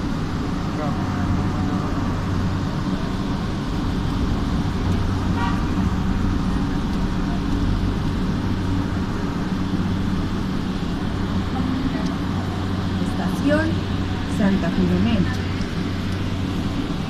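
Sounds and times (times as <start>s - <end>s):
train running low rumble: 0.0s - 17.0s.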